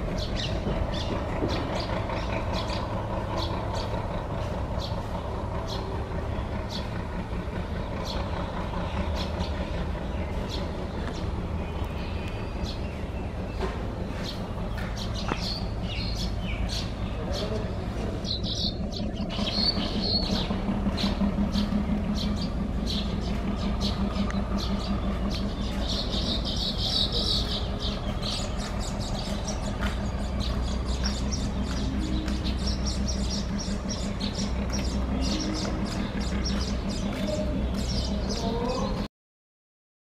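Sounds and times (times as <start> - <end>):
birds chirping: 0.0 - 39.1
train rumbling with pulsing beat: 0.0 - 39.1.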